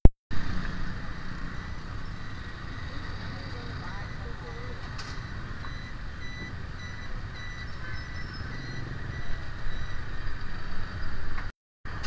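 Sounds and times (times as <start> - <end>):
low traffic rumble: 0.3 - 12.0.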